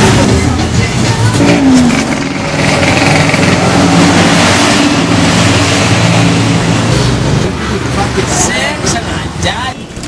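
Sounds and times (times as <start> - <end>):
road and wind noise: 0.0 - 10.0
vehicle engine hum: 0.0 - 10.0.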